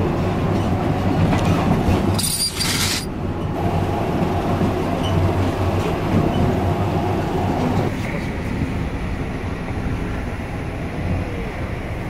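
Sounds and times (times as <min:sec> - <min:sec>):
train carriage rumble and hum: 0:00.0 - 0:12.0.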